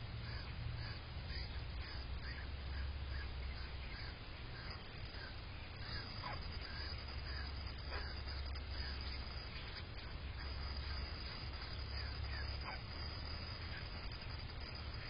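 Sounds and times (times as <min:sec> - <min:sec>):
steady low rumble: 0:00.0 - 0:15.0
birds chirping: 0:00.3 - 0:15.0
downward-sliding bird calls: 0:00.3 - 0:15.0.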